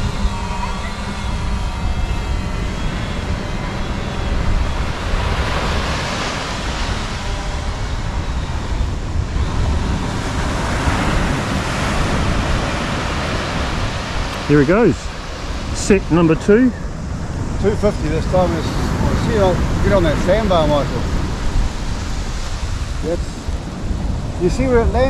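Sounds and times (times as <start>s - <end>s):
wind buffeting microphone: 0.0s - 25.0s
ocean surf waves breaking: 2.6s - 25.0s.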